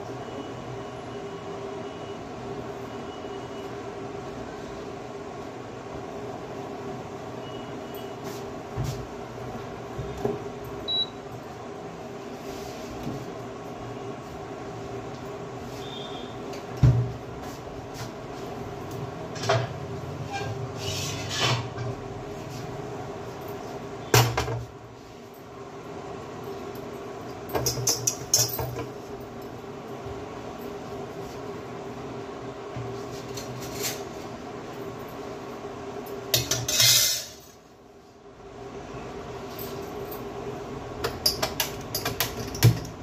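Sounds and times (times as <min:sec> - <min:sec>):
mechanical hum: 0:00.0 - 0:43.0.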